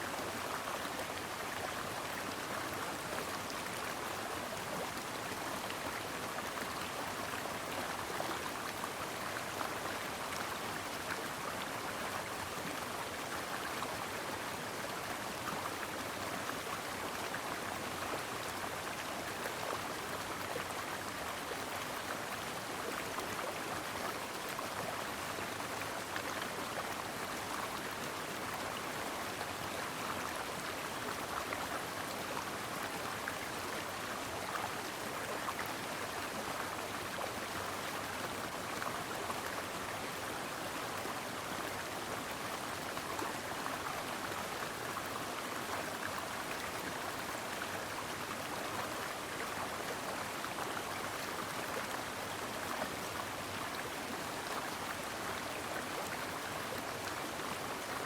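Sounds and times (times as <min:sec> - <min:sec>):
brook water flowing: 0:00.0 - 0:58.0.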